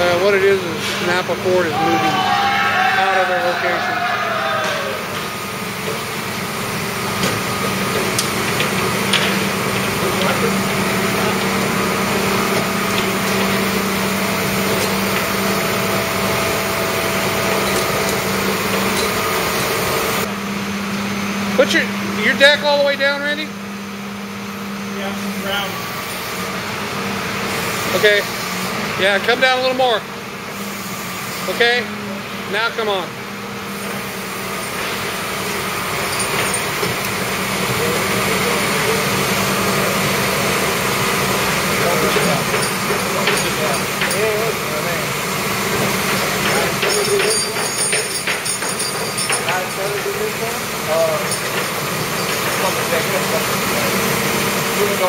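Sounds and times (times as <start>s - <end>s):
truck engine humming: 3.2s - 24.8s, 30.1s - 55.0s.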